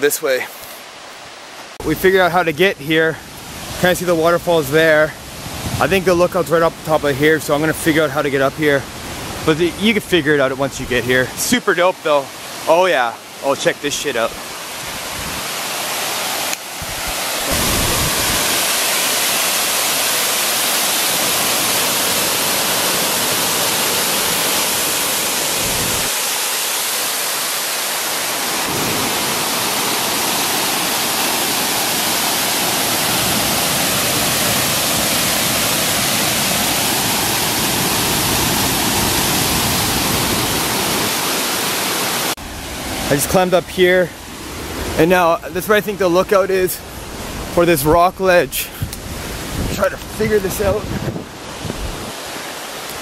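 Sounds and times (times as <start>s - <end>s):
waterfall cascading over rocks: 0.0s - 53.0s.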